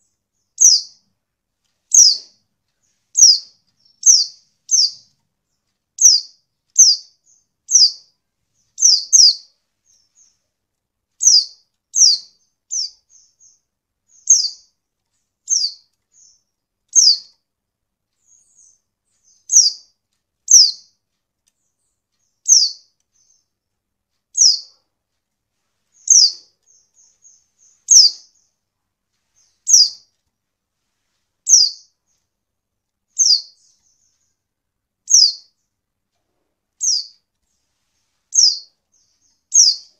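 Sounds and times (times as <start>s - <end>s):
bird chirping: 0.0s - 30.4s, 31.0s - 32.4s, 33.0s - 39.9s.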